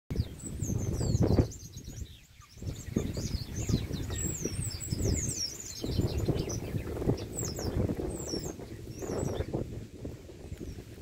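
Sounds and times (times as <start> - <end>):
birds whistling calls: 0.1 - 9.7.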